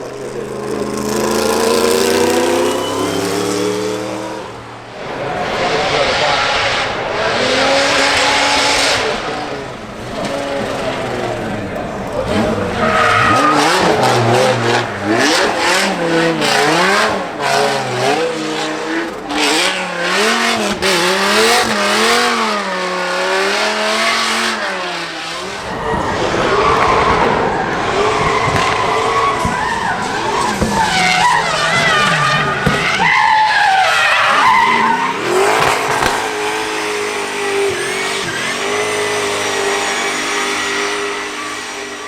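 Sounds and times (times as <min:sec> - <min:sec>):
car engine revving: 0:00.0 - 0:42.0
tyres squealing and skidding: 0:00.0 - 0:42.0.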